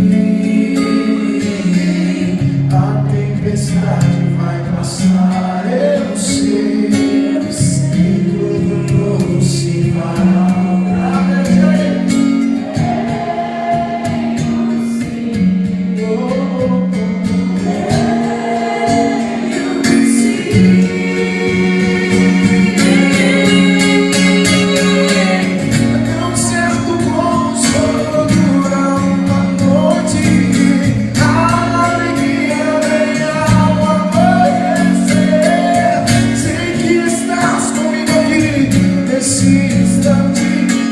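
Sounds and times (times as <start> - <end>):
music with singing voices: 0.0 - 40.9.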